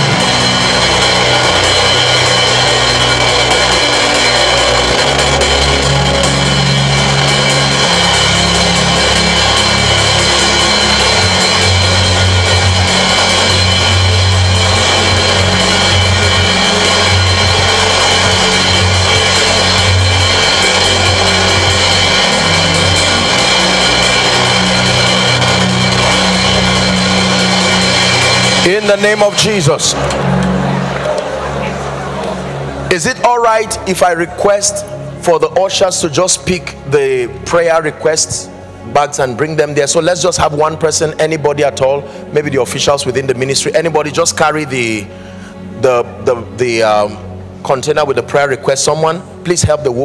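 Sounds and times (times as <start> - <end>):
bass notes: 0.0 - 48.2
church band music: 0.0 - 50.0.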